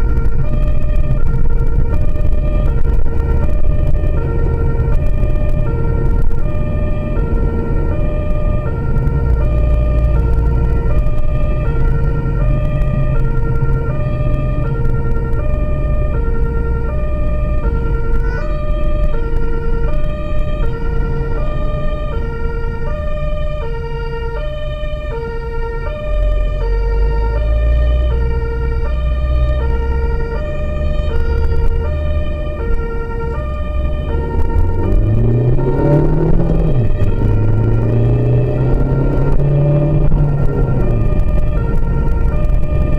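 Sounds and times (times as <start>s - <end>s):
two-tone emergency siren: 0.0s - 42.9s
vehicle engine and tyres rumbling: 0.0s - 42.9s.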